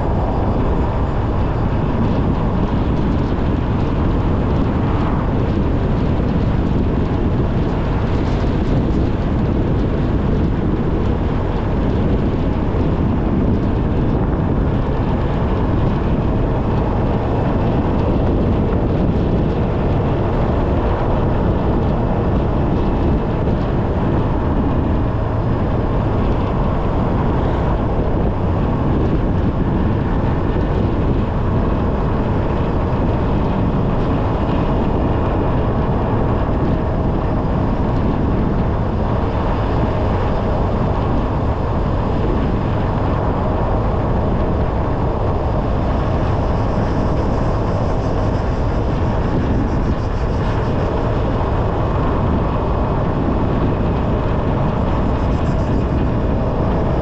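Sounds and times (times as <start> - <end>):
road noise: 0.0 - 57.0
wind noise: 0.0 - 57.0.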